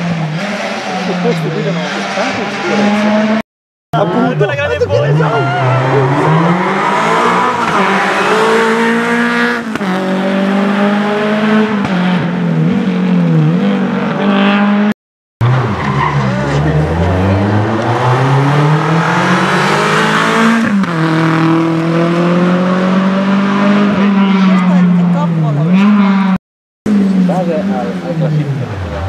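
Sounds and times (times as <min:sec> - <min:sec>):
car engine revving: 0:00.0 - 0:03.4, 0:04.0 - 0:29.0.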